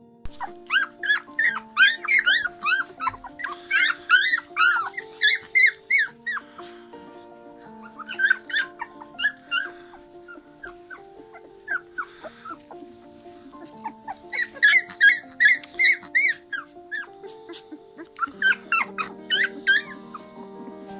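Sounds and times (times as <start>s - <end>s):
held musical notes: 0.0s - 20.9s
dog whimpering squeakily: 0.3s - 6.4s, 7.8s - 9.7s, 10.3s - 12.8s, 13.6s - 20.4s.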